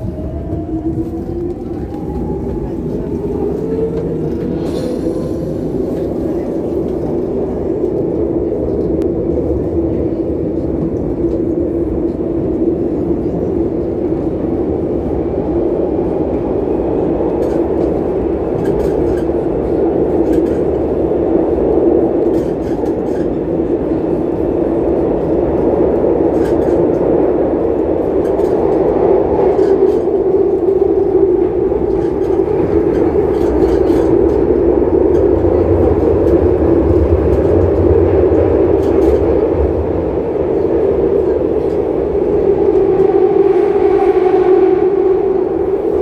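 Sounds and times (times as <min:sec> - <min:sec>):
train wheels and motors rumbling: 0:00.0 - 0:46.0.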